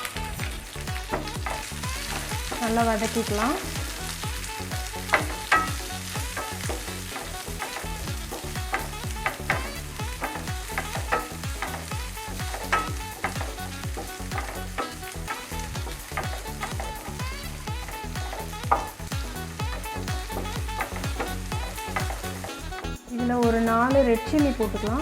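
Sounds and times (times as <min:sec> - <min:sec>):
background music with a beat: 0:00.0 - 0:25.0
onions sizzling in hot oil: 0:00.0 - 0:25.0.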